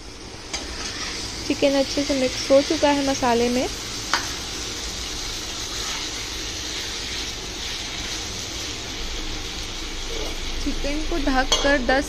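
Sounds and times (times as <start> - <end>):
chicken and onion sizzling in oil: 0.0 - 12.0
spatula stirring in a pan: 0.5 - 10.6.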